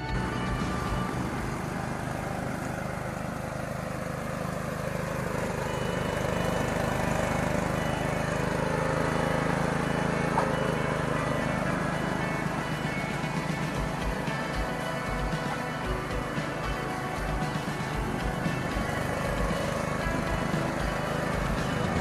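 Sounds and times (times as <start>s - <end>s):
ride-on mower engine running: 0.0s - 22.0s.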